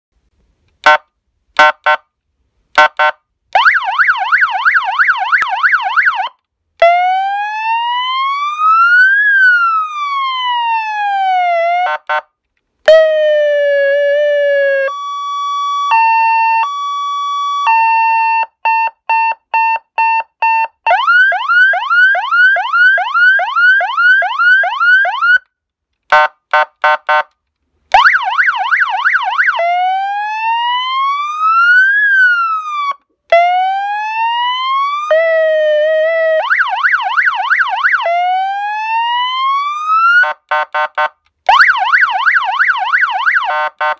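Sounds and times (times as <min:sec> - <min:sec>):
electronic vehicle siren: 0:03.6 - 0:12.2, 0:12.9 - 0:25.4, 0:28.0 - 0:40.4, 0:41.5 - 0:43.9.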